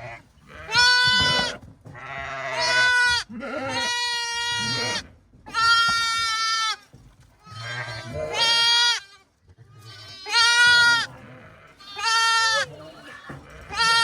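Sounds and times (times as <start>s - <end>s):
sheep bleating: 0.0s - 6.8s, 7.4s - 14.0s.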